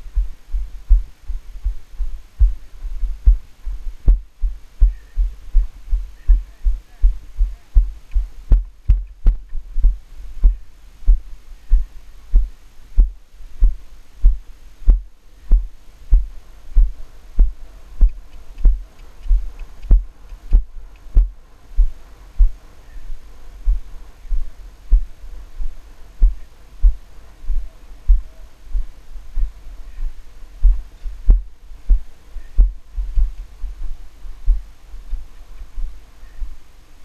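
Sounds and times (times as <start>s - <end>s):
dull low thumps of strides: 0.0s - 36.6s.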